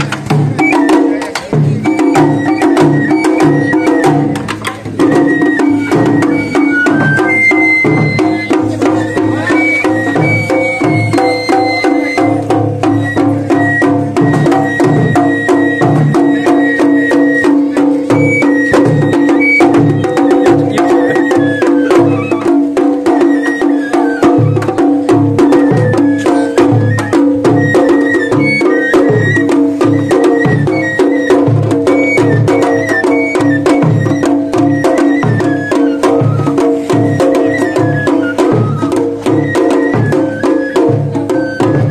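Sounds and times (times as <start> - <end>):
bamboo flute melody: 0.0 - 41.9
taiko drumming: 0.0 - 41.9.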